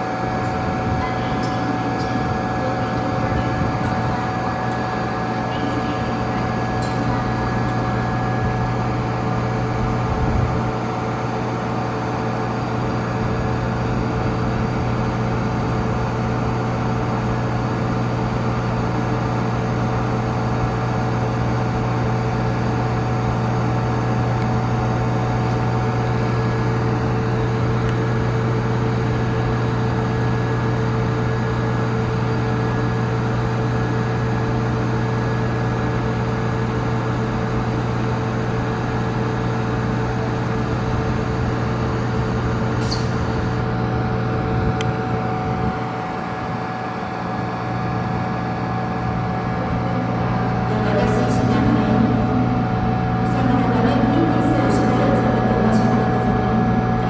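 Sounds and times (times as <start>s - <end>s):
electrical equipment humming: 0.0s - 57.0s.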